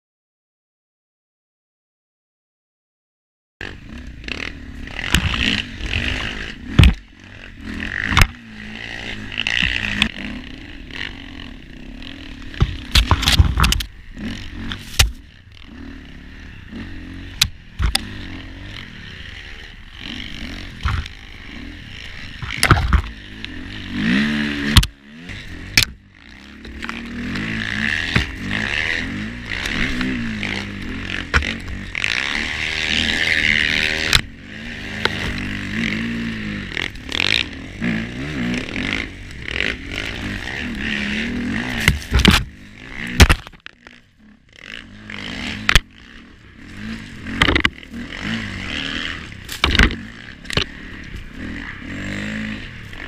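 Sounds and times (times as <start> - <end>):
branches and snow scraping bike: 3.6 - 53.0
dirt bike engine revving: 3.6 - 53.0.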